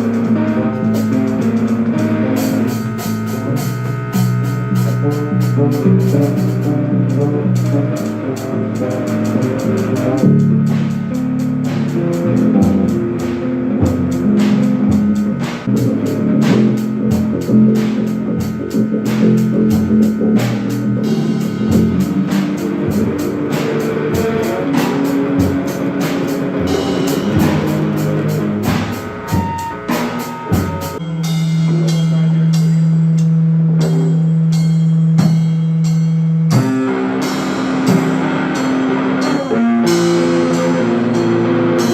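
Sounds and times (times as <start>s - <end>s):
drums hitting busily: 0.0s - 41.9s
rock band playing: 0.0s - 41.9s.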